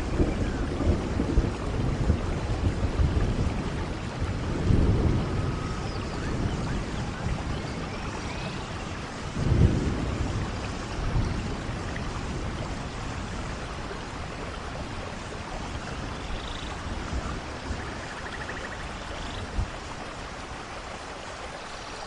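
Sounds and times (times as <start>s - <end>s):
thunder rumbling: 0.0s - 20.2s
heavy rain: 0.0s - 22.0s.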